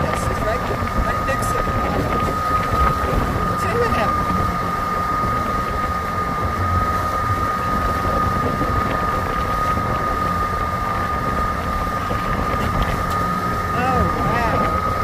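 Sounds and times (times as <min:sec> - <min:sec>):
boat motor running with high whine: 0:00.0 - 0:15.0
wind buffeting microphone: 0:00.0 - 0:15.0.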